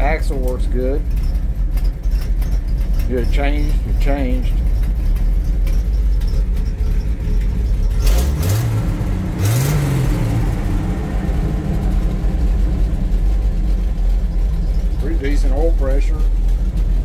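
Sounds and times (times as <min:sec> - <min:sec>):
truck engine revving and idling: 0:00.0 - 0:17.0.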